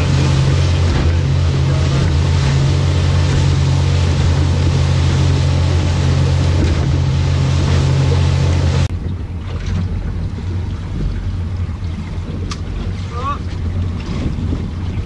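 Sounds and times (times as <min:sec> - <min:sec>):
boat engine running: 0:00.0 - 0:15.0
water rushing: 0:00.0 - 0:15.0
wind: 0:00.0 - 0:15.0.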